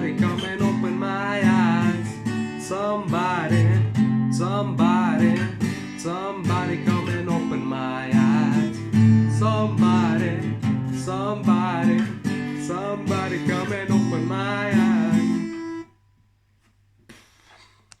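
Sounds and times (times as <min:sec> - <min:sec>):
strummed rock guitar riff: 0:00.0 - 0:15.9.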